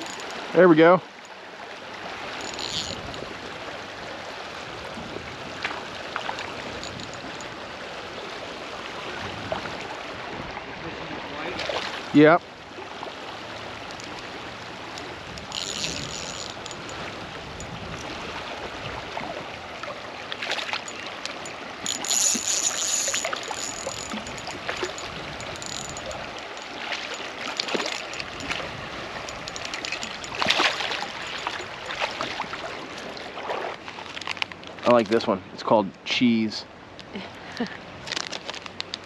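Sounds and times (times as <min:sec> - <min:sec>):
flowing stream water: 0:00.0 - 0:39.0.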